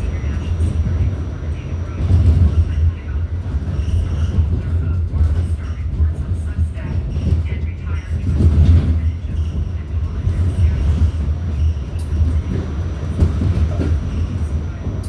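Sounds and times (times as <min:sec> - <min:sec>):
faint voices: 0:00.0 - 0:15.0
subway car rumbling on track: 0:00.0 - 0:15.0.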